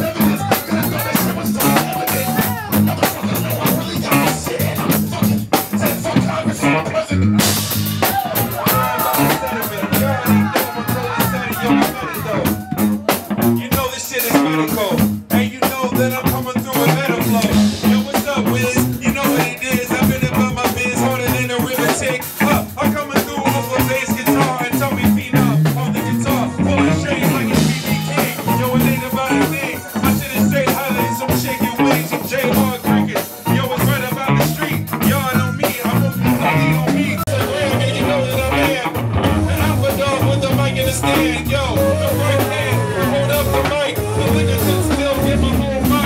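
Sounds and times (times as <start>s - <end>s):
drum kit playing a beat: 0.0s - 46.0s
guitar: 0.0s - 46.0s
person singing into microphone: 0.0s - 46.0s.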